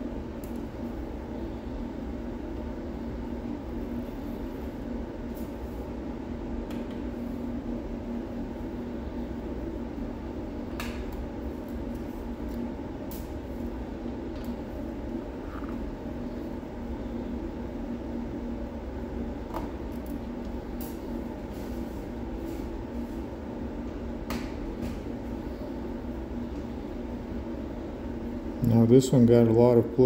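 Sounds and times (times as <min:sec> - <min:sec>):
low background hum: 0:00.0 - 0:30.0.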